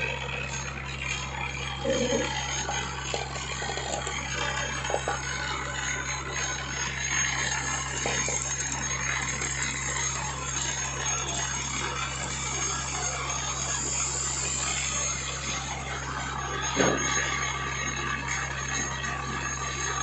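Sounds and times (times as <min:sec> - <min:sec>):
bowl feeder electric buzz: 0:00.0 - 0:20.0
capacitors rattling along track: 0:00.0 - 0:20.0.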